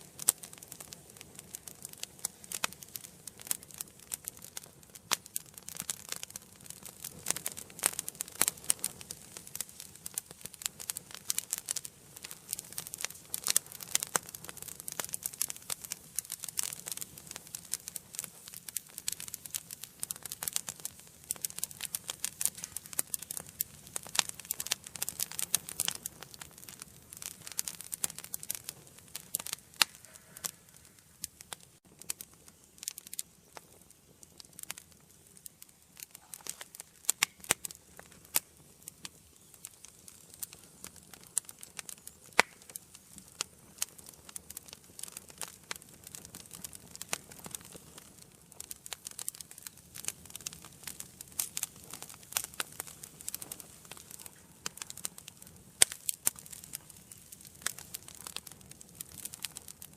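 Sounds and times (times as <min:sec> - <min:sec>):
soft fire hiss: 0:00.0 - 0:59.9
wood fire crackling and popping: 0:00.0 - 0:59.9.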